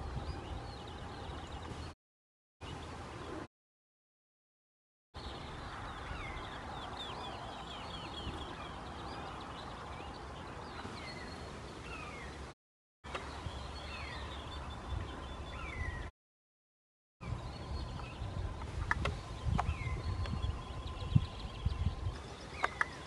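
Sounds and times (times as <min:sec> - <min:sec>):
songbirds singing: 0:00.0 - 0:02.0, 0:05.2 - 0:16.1, 0:17.2 - 0:23.0.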